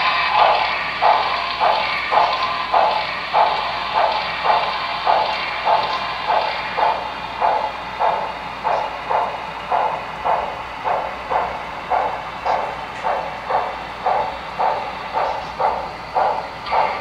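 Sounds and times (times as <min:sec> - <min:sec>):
model steam locomotive chuffing: 0:00.0 - 0:17.0.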